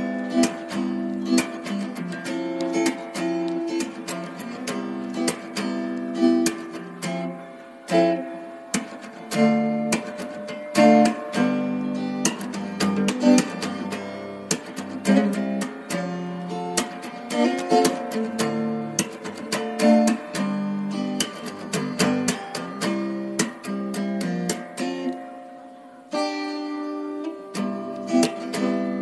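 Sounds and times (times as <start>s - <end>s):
plucked and strummed guitar music: 0.0s - 29.0s.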